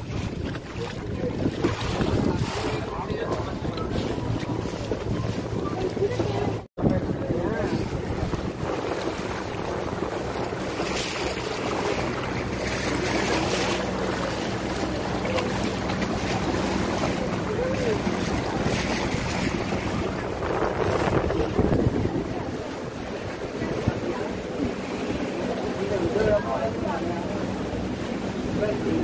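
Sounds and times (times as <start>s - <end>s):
wind on microphone: 0.0s - 26.4s.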